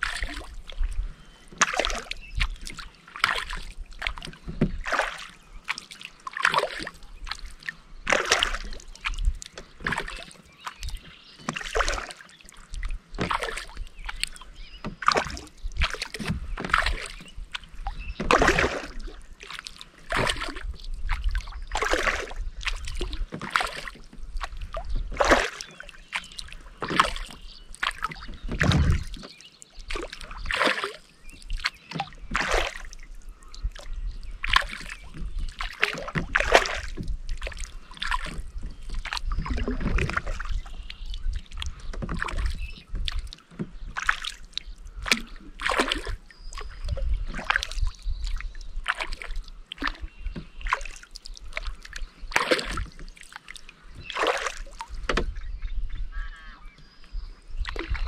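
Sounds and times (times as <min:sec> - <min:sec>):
kayak paddle splashing in water: 0:00.0 - 0:56.0, 0:56.6 - 0:58.0.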